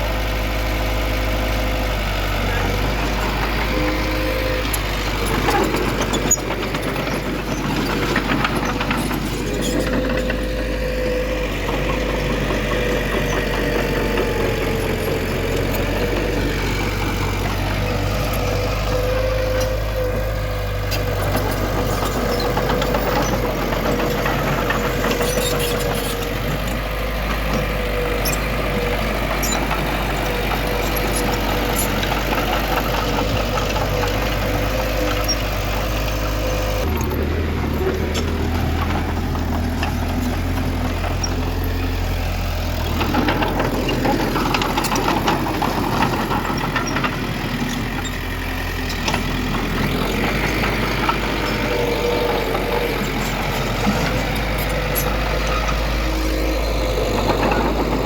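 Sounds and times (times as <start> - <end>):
heavy machine diesel engine: 0.0 - 58.0.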